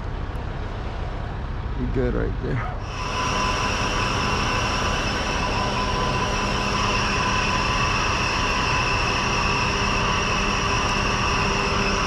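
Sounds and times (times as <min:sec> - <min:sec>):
crane engine and hydraulics whining: 0:00.0 - 0:12.0.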